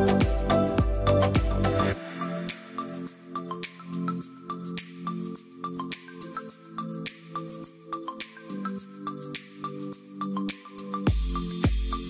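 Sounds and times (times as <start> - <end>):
light ticking percussion: 0.0 - 12.0.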